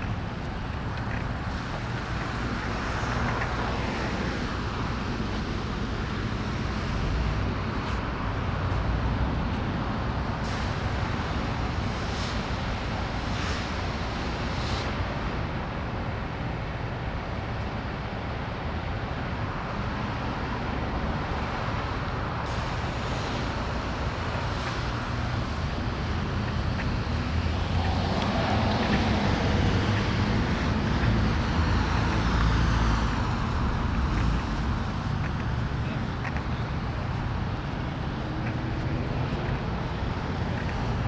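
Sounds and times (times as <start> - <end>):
cars passing: 0.0 - 41.0.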